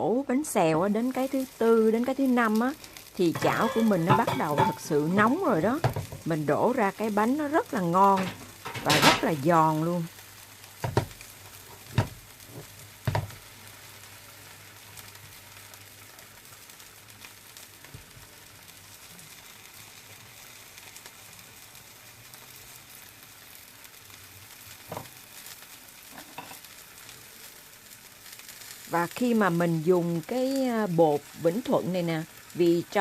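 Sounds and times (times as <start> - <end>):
batter sizzling in a hot pan: 0.2 - 33.0.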